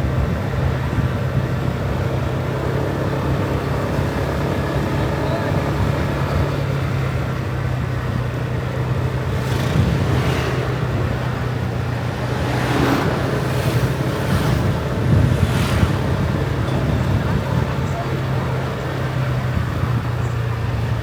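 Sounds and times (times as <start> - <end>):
motorbike engine running: 0.0 - 21.0
vehicles passing: 0.0 - 21.0.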